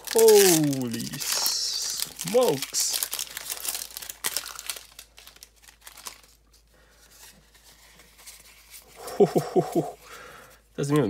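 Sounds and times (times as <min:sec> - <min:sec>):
foil wrapper crinkling: 0:00.0 - 0:09.3
trading cards being handled: 0:00.0 - 0:10.0.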